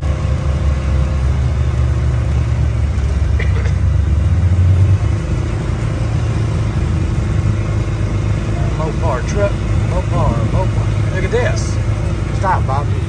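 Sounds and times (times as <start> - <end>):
atv engine rumbling: 0.0 - 13.0.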